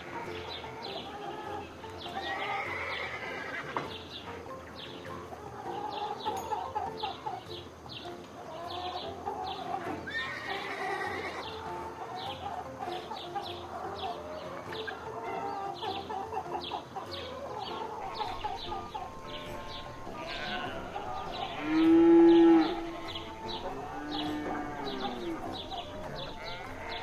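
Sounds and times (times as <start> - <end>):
farm animals calling: 0.0 - 27.0.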